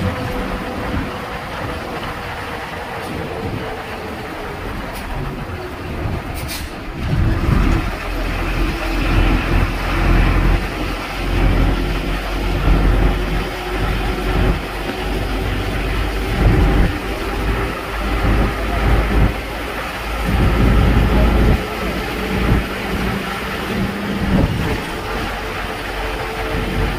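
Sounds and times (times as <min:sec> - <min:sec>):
vehicle road and engine rumble: 0:00.0 - 0:26.9
wind buffeting microphone: 0:00.0 - 0:26.9.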